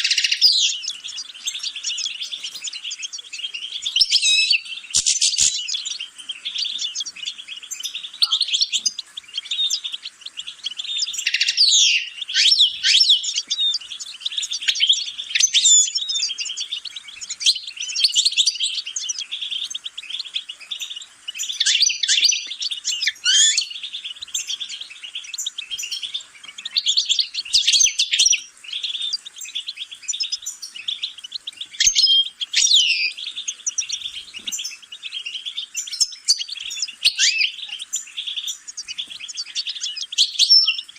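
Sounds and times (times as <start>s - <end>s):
goldfinch twittering song: 0.0s - 40.9s.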